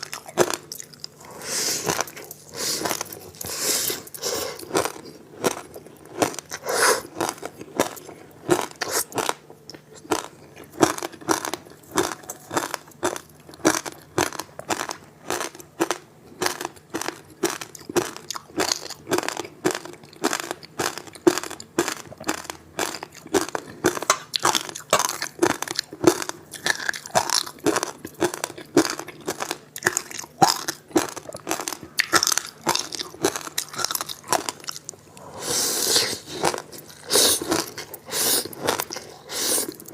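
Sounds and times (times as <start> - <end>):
crisp crunches of chewing ice: 0.0 - 35.0, 36.1 - 39.9.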